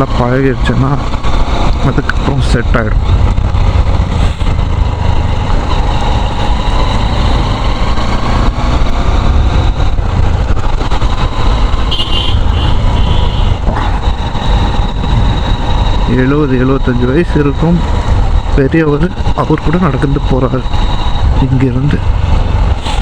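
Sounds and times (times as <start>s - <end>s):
motorcycle engine running: 0.0s - 23.0s
wind rushing on microphone: 0.0s - 23.0s.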